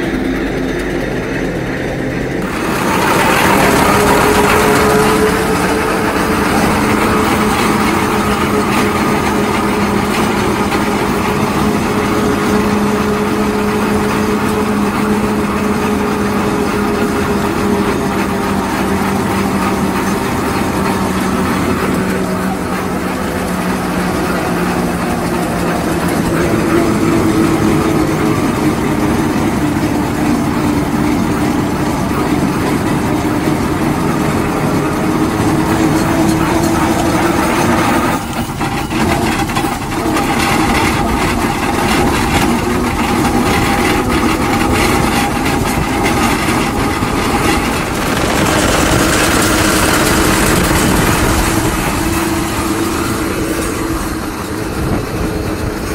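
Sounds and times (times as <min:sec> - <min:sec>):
steam engine mechanical running: 0:00.0 - 0:55.9.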